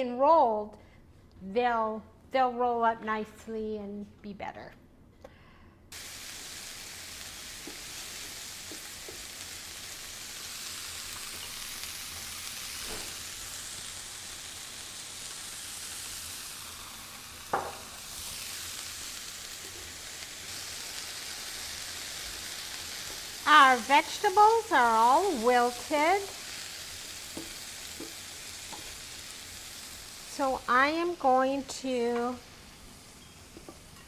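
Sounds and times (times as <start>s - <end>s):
vegetables sizzling in a pan: 5.9s - 34.0s.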